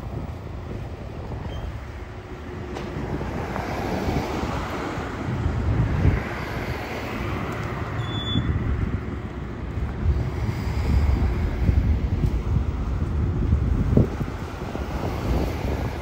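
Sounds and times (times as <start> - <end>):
bus passing: 0.0 - 16.0
street traffic: 0.0 - 16.0
wind rumbling on microphone: 0.0 - 16.0.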